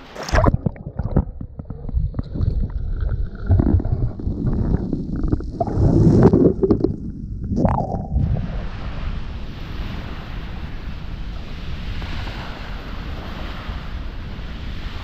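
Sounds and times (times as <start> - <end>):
underwater sloshing and gurgling: 0.0 - 15.0.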